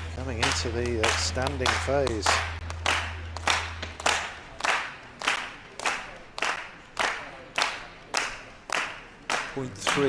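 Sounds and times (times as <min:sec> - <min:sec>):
spectators clapping in unison: 0:00.0 - 0:10.0.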